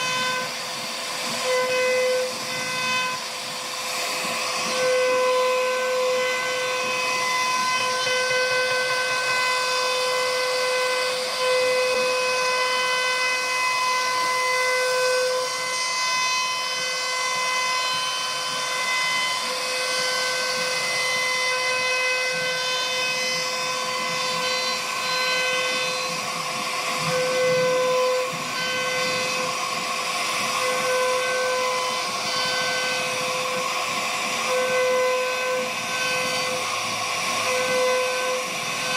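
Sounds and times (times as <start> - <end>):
router spindle cutting wood: 0.0 - 38.9.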